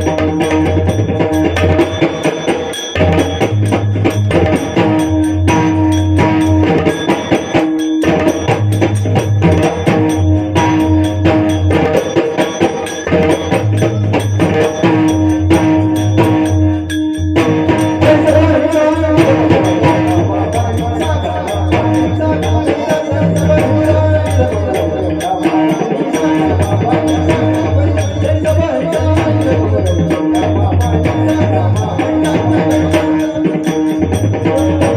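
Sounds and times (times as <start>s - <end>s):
drums beating: 0.0s - 34.9s
jingling hand percussion: 0.0s - 34.9s.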